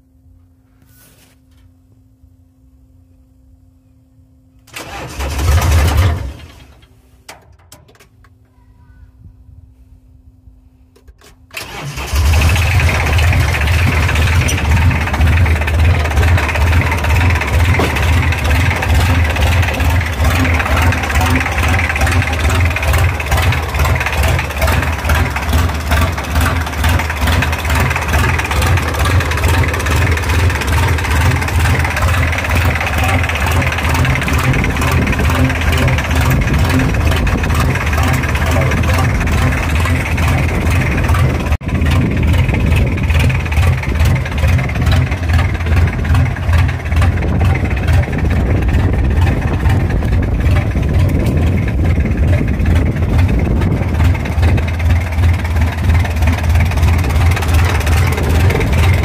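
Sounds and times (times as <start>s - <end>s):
buggy engine idling: 4.7s - 6.9s, 11.6s - 59.0s.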